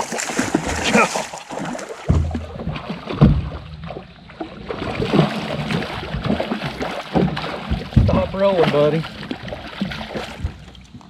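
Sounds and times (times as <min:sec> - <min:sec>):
knocks and bumps in boat: 0:00.0 - 0:11.0.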